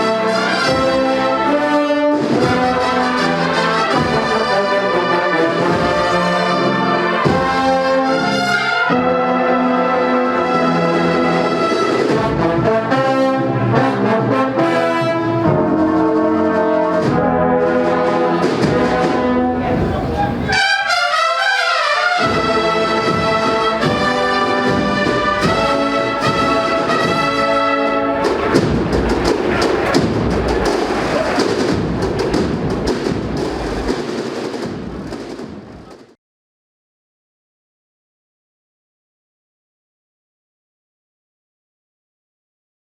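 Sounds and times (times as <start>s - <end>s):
brass band playing a march: 0.0s - 36.0s
noisy crowd: 0.0s - 36.2s.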